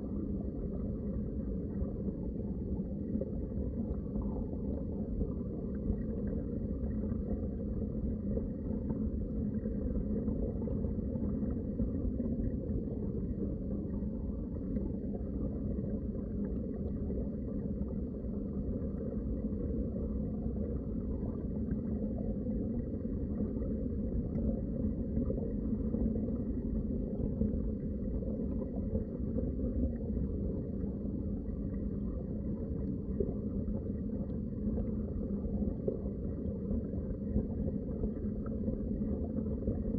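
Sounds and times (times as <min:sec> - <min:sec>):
muffled underwater water rumble: 0:00.0 - 0:39.9.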